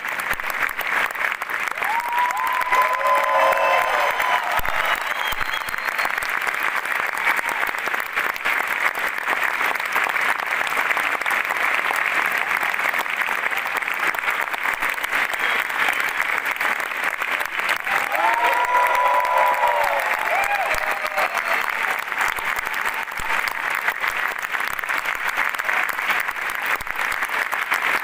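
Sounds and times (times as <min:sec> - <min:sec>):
audience clapping: 0:00.0 - 0:28.0.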